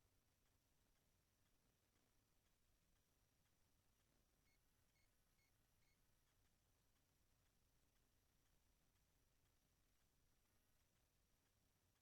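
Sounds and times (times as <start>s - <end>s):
faint electrical hiss: 0.0s - 12.0s.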